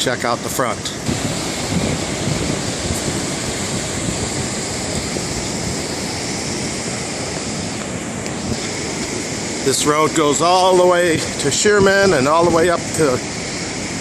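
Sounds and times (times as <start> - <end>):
ocean surf breaking: 0.0 - 14.0
wind noise: 0.0 - 14.0.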